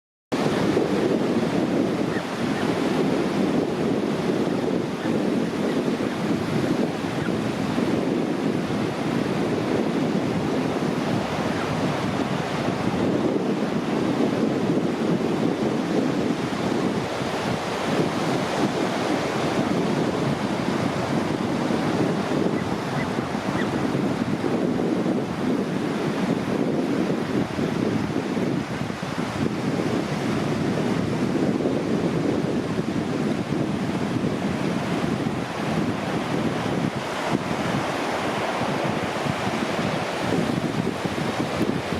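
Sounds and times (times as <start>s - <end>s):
wind rumbling on microphone: 0.3s - 41.9s
ocean surf breaking: 0.4s - 41.9s.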